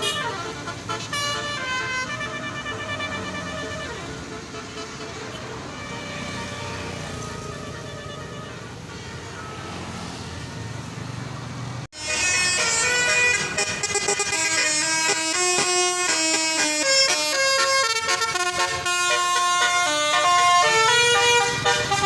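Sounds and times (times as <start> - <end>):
bus musical horn tune: 0.0 - 9.6, 11.9 - 22.0.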